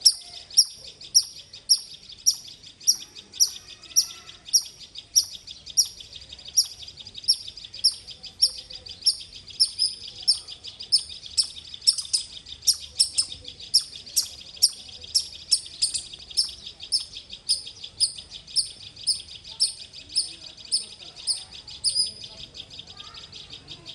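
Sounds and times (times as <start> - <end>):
squirrel chirping: 0.0 - 23.9.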